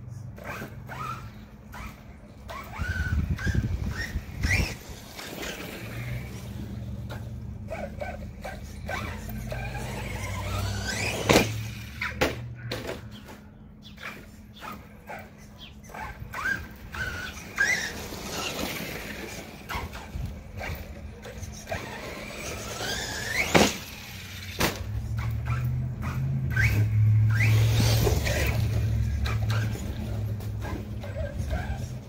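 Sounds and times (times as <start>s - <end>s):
electric motor whining: 0.4s - 12.2s, 15.8s - 32.0s.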